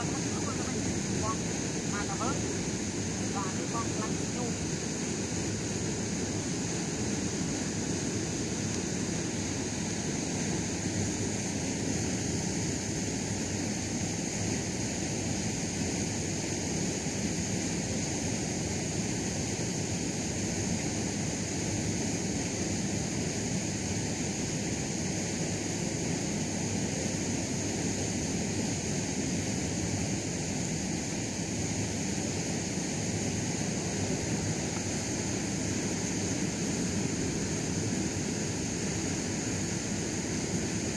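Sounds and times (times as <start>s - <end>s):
constant high hiss: 0.0s - 40.9s.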